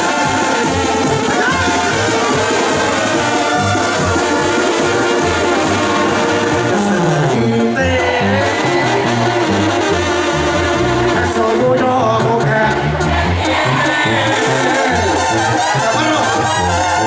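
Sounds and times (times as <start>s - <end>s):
brass band playing live: 0.0s - 17.0s.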